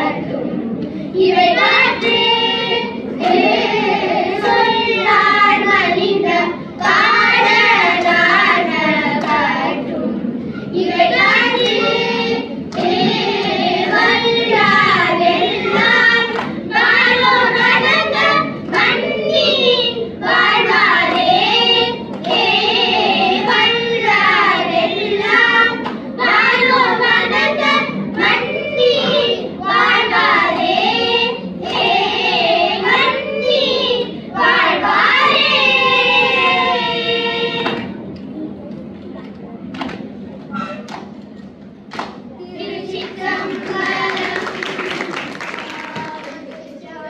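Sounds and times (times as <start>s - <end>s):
children singing a hymn in unison: 0.0s - 38.0s, 42.4s - 47.0s.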